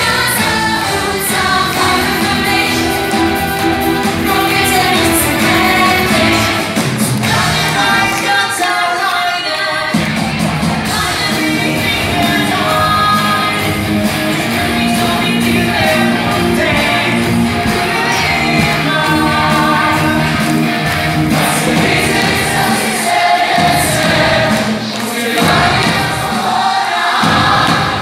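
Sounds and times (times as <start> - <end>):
band playing: 0.0 - 8.9, 9.9 - 28.0
voices singing held notes: 0.0 - 28.0.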